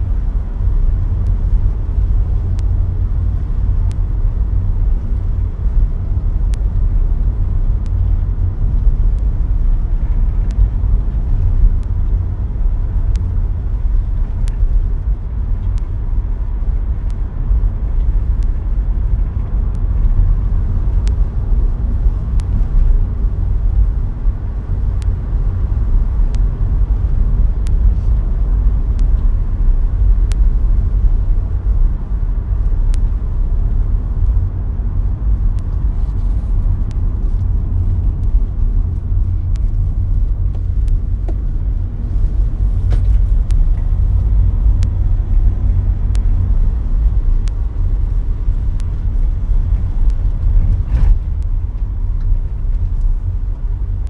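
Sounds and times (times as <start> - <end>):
car engine and tyre rumble: 0.0 - 54.0
faint light ticks: 0.1 - 54.0.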